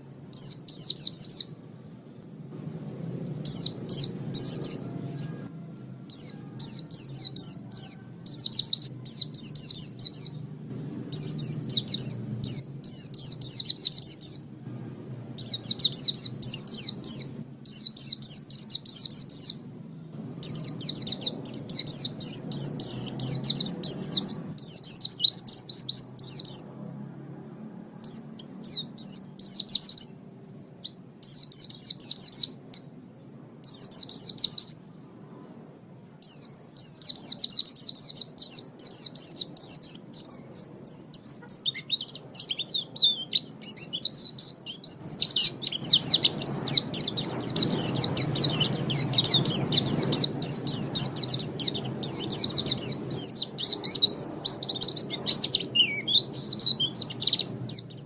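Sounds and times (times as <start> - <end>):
bird high twittering song: 0.0 - 58.0
faint low rumble: 0.0 - 58.0.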